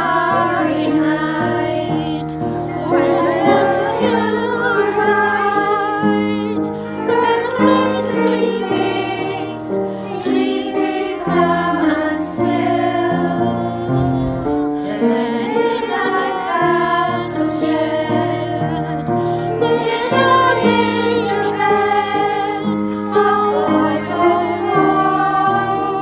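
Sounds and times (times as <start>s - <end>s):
children and adults singing: 0.0s - 26.0s
musical accompaniment: 0.0s - 26.0s.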